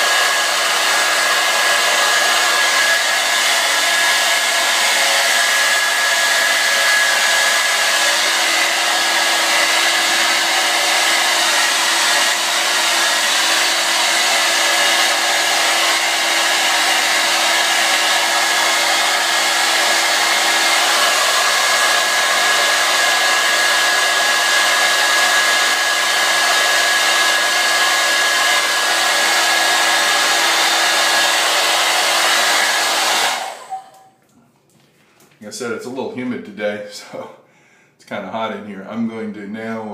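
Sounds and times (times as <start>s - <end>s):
hair dryer running: 0.0s - 34.2s.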